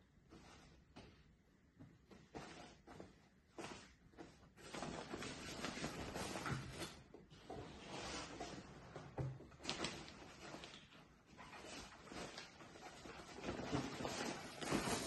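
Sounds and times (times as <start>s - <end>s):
clothes and nylon bag rustling: 2.0s - 15.0s.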